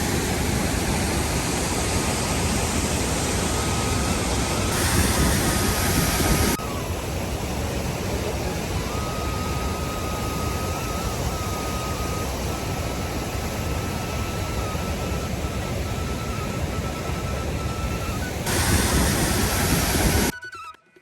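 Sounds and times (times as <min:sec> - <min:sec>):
steady rushing noise: 0:00.0 - 0:20.3
thin high tone: 0:02.4 - 0:20.8.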